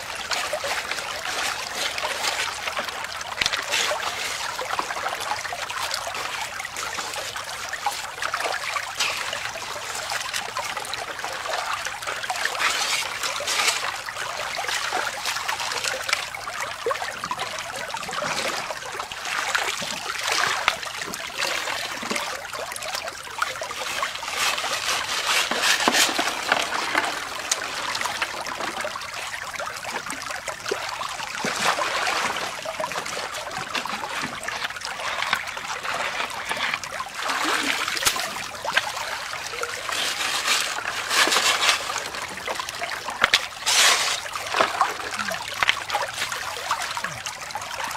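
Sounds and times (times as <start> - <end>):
creek water trickling over rocks: 0.0 - 47.9
water splashes: 0.0 - 47.9.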